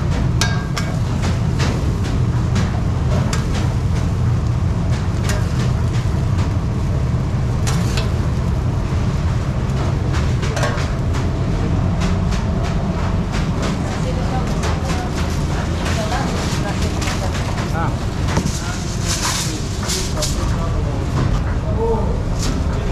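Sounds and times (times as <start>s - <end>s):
low kitchen rumble: 0.0s - 22.9s.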